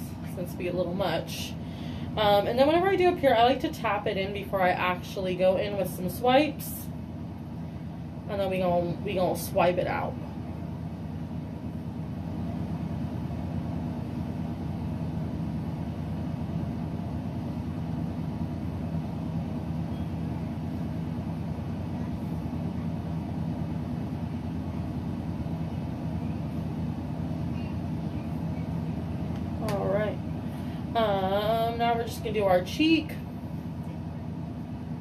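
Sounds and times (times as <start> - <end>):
low fan hum: 0.0 - 35.0.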